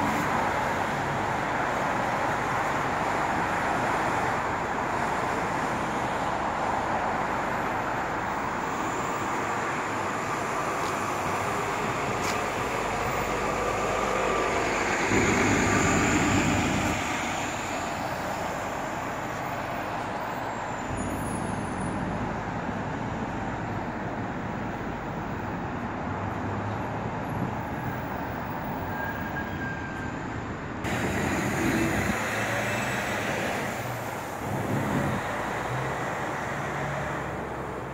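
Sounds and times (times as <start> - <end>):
bus pulling away: 0.0 - 23.6, 27.3 - 37.9
street traffic: 0.0 - 37.9.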